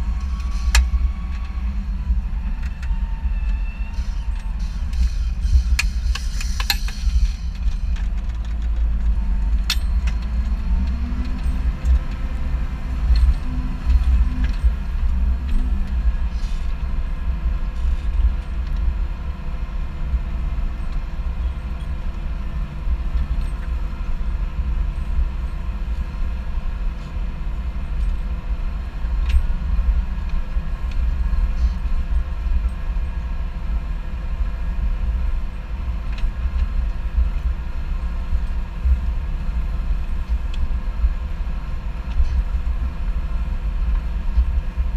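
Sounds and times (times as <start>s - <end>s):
tractor diesel engine rumbling: 0.0s - 44.9s.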